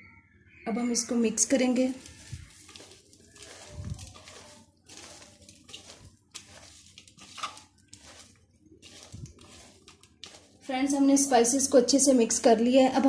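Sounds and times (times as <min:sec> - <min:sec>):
grated potato squishing in a bowl: 0:01.4 - 0:13.0.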